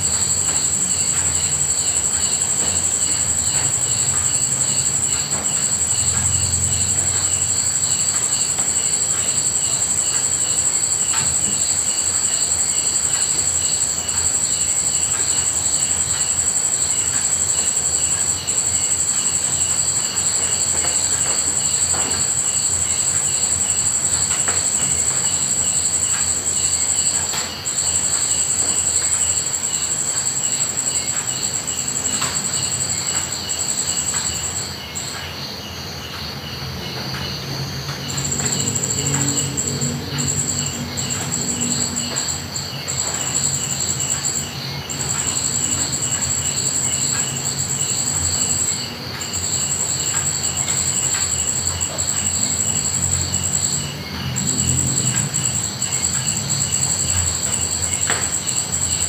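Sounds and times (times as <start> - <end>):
crickets trilling: 0.0 - 59.0
fast pulsing insect chirp: 0.0 - 59.0.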